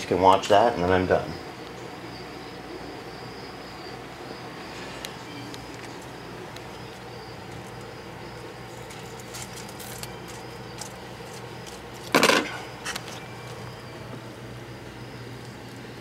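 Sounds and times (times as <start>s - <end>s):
crickets chirping: 0.0s - 16.0s
low steady hum: 0.0s - 16.0s.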